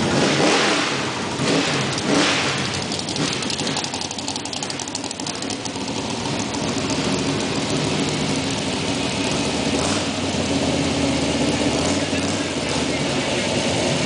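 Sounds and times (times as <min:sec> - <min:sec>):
race car engines driving past: 0:00.0 - 0:14.0.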